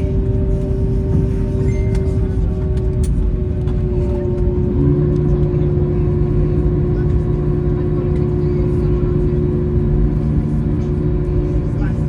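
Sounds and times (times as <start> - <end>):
aircraft engine and airflow rumble: 0.0 - 12.0
deep hum: 0.0 - 12.0
steady humming tones: 0.0 - 12.0.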